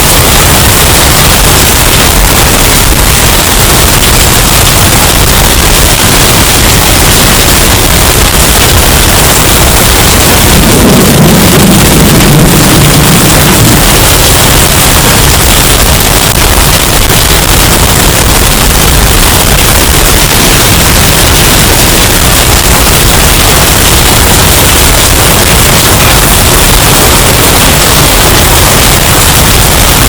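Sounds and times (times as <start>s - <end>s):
distorted storm noise: 0.0s - 30.0s.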